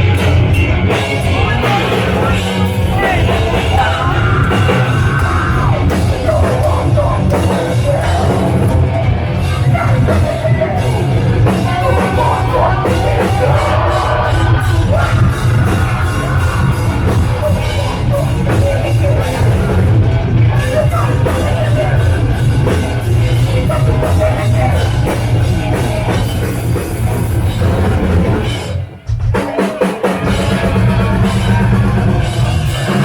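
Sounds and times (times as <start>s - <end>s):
bass guitar: 0.0s - 33.0s
distorted guitars: 0.0s - 33.0s
drums: 0.0s - 33.0s
yelled vocals: 0.0s - 33.0s.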